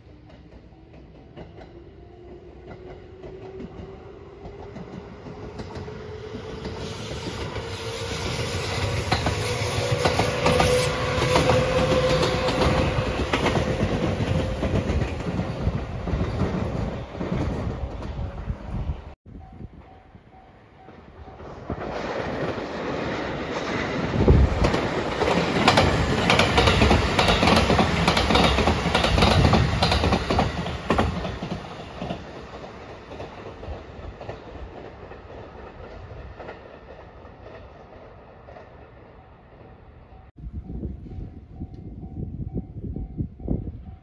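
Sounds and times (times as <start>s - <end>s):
electric train passing at speed: 0.0s - 44.0s
train wheels clicking over rail joints: 0.1s - 18.3s, 20.8s - 39.8s.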